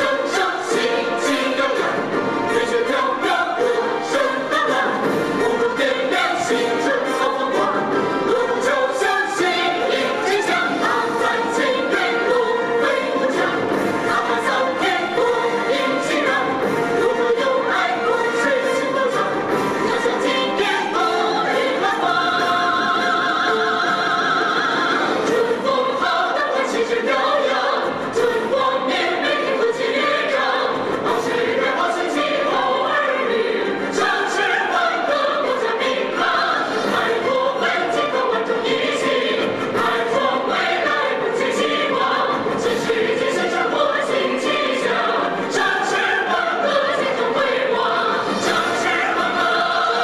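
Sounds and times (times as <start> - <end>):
group of people singing: 0.0 - 50.0.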